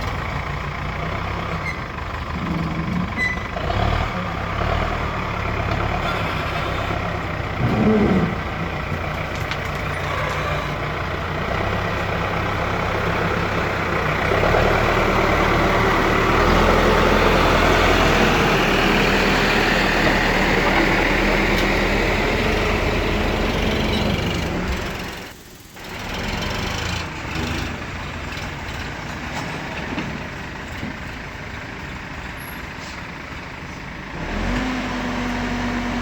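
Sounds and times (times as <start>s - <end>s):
diesel engines running: 0.0s - 36.0s.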